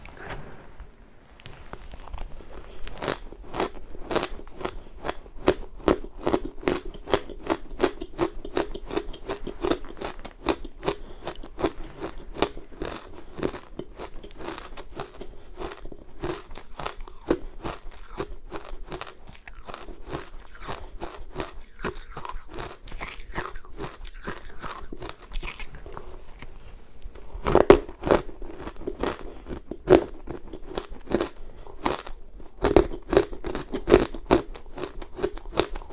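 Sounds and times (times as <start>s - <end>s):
crunching and chewing ice: 1.4s - 35.9s.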